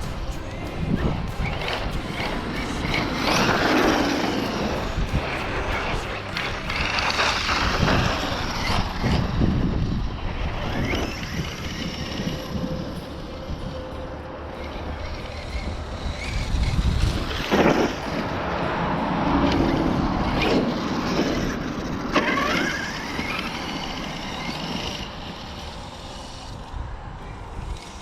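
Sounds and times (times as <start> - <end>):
electric motor revving: 0.0 - 28.0
rising motor whine: 0.0 - 28.0
tyres and wind rumble: 0.0 - 28.0.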